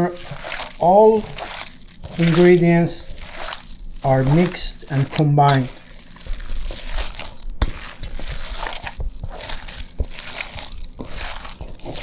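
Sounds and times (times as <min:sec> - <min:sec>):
hands kneading ground meat: 0:00.0 - 0:12.0.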